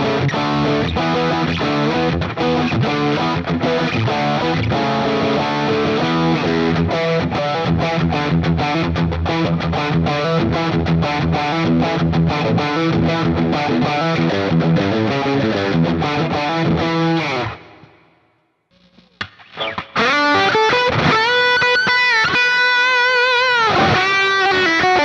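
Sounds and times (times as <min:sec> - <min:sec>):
distorted electric guitar riff: 0:00.0 - 0:25.0.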